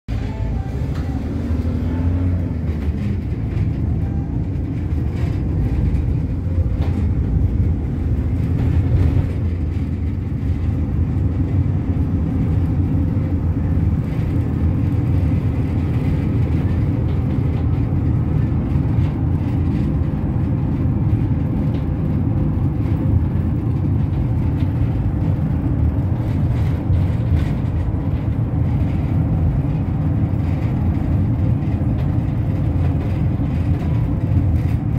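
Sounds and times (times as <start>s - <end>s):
vehicle engine and road rumble: 0.1s - 34.9s.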